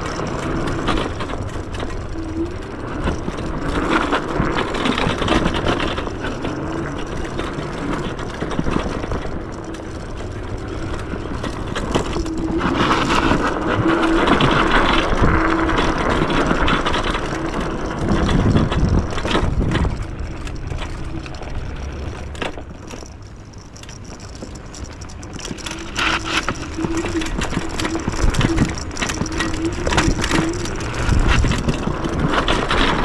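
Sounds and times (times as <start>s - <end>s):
electric motor hum: 0.0s - 33.0s
rattling over bumps: 0.0s - 33.0s
scooter tyre noise: 0.0s - 33.0s.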